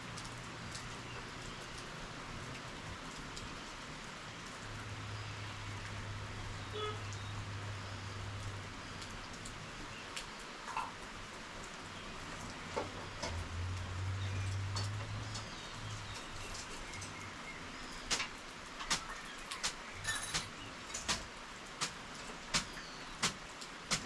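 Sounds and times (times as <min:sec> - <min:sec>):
steady rainfall: 0:00.0 - 0:24.0.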